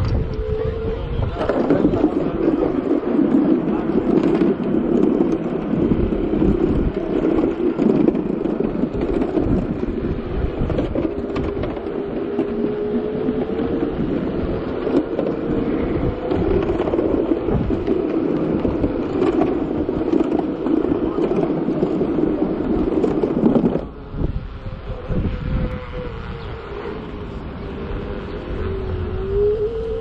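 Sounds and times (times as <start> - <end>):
scooter tyres rumbling on road: 0.0 - 30.0
wind on microphone: 0.0 - 30.0.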